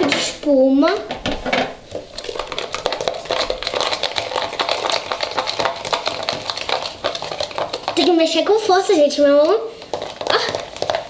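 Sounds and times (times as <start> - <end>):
slime being stirred crackling: 0.0 - 11.0.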